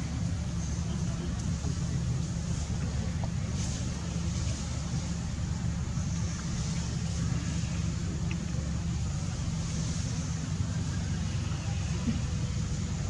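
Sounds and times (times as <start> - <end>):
even hiss: 0.0 - 13.0
low background rumble: 0.0 - 13.0.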